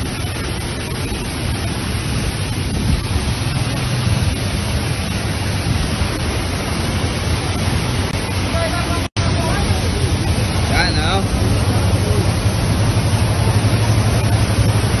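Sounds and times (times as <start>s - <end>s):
floodwater rushing down a slope: 0.0s - 15.0s.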